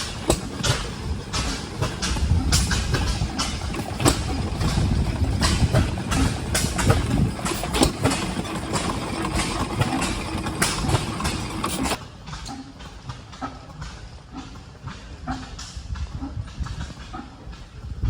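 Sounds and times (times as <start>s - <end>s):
old engine idling with pops: 0.0s - 18.0s.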